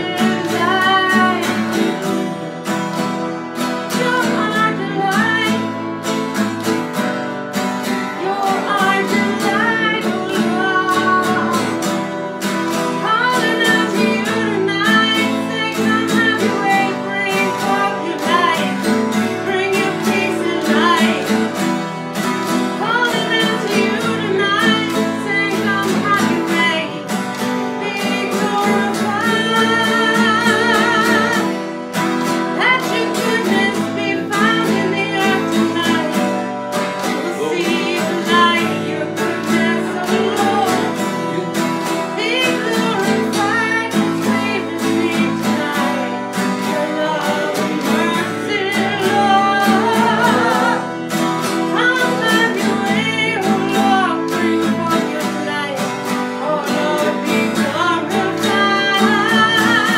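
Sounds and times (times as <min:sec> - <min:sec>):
acoustic guitars strummed: 0:00.0 - 0:59.9
woman singing: 0:00.0 - 0:59.9.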